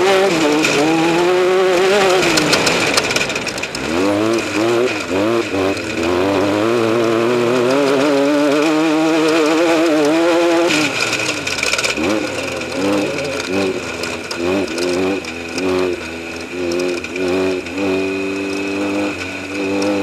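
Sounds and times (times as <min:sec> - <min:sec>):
race vehicle engine: 0:00.0 - 0:20.0.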